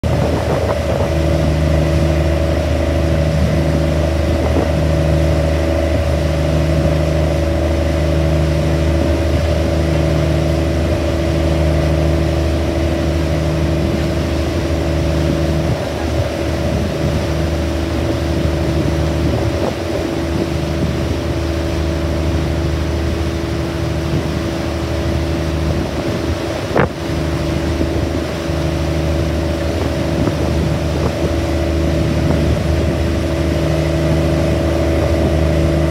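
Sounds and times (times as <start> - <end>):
boat engine droning: 0.0 - 35.9.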